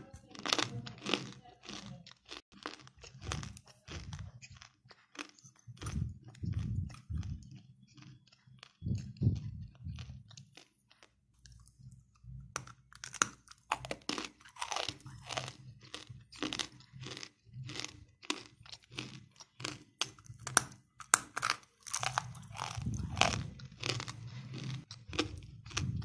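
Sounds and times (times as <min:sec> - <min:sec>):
roasted clay crunching when chewed: 0:00.0 - 0:26.0.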